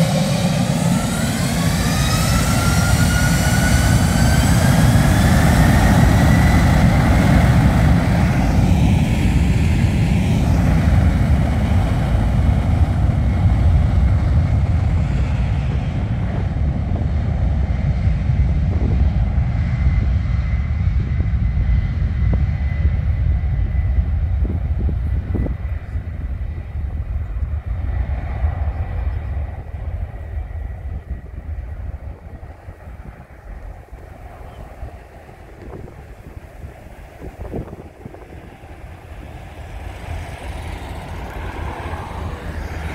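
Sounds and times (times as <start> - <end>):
jet engines roaring at takeoff: 0.0 - 42.9.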